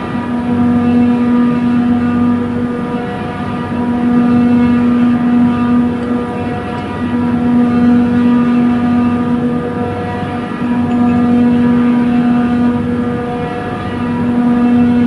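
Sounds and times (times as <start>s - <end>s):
compressor machine hum: 0.0s - 15.0s.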